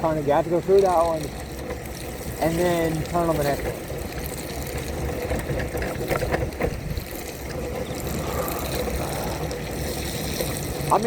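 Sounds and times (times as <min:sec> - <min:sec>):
wheelchair motor humming: 0:00.0 - 0:11.0.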